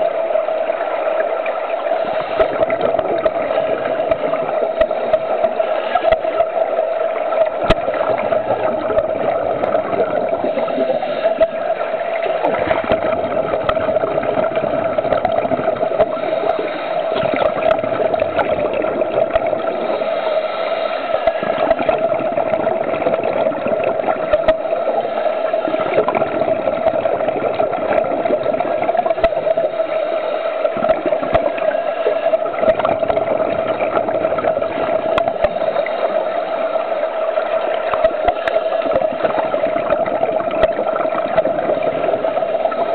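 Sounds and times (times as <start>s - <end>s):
regulator bubbles gurgling: 0.0s - 42.9s
steady underwater hum: 0.0s - 42.9s
watery wash: 0.0s - 42.9s.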